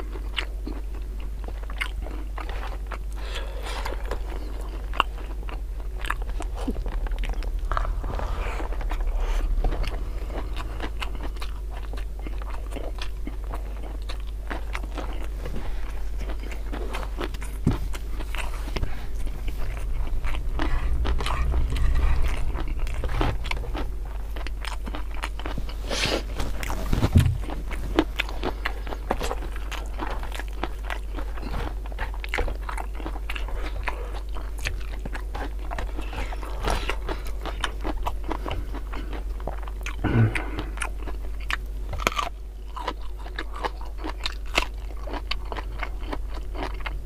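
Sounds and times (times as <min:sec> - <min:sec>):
low steady hum: 0:00.0 - 0:47.0
man chewing and crunching food: 0:00.0 - 0:47.0.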